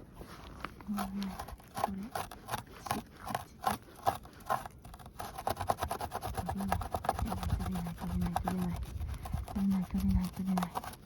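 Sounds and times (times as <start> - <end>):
hand tool scraping ice: 0.2 - 11.0.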